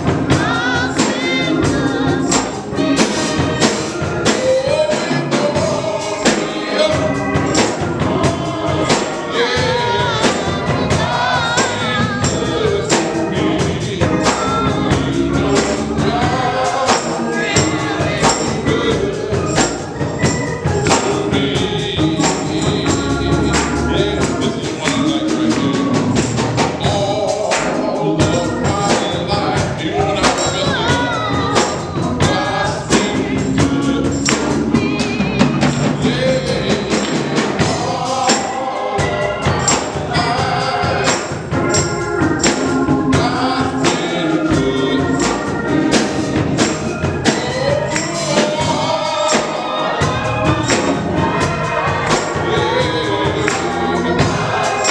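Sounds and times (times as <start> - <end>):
choir singing gospel: 0.0 - 54.9
steady percussive beat: 0.0 - 54.9.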